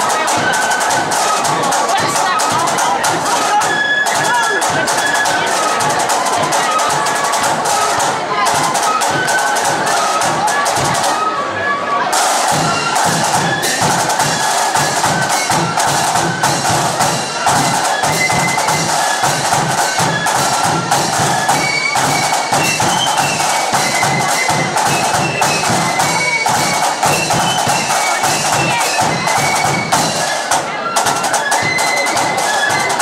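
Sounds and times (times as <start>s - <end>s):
side drums beating: 0.0s - 11.4s, 12.0s - 33.0s.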